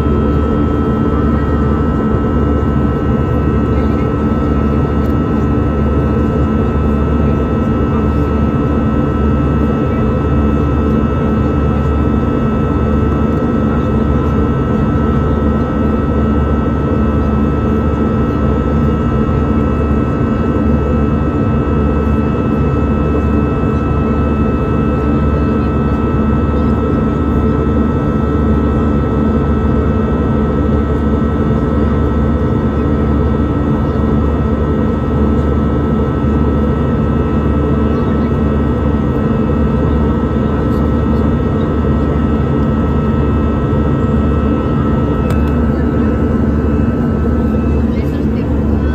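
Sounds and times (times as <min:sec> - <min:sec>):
airliner engines droning: 0:00.0 - 0:48.9.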